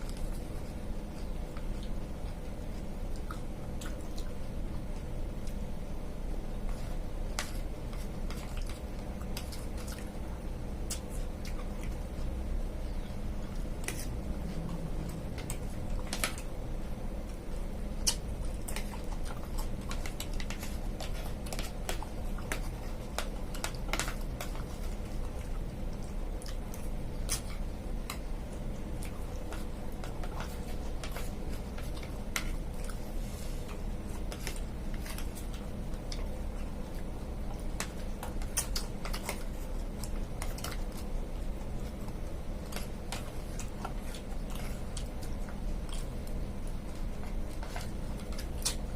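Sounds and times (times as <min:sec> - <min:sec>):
steady low hum: 0:00.0 - 0:48.9
person chewing: 0:06.5 - 0:48.9.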